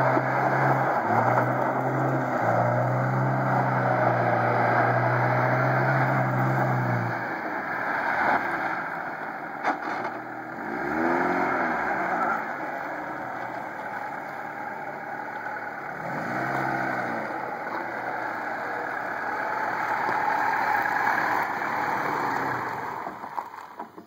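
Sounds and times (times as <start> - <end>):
car engine revving: 0.0 - 23.8
tyres spinning on gravel: 0.0 - 24.0.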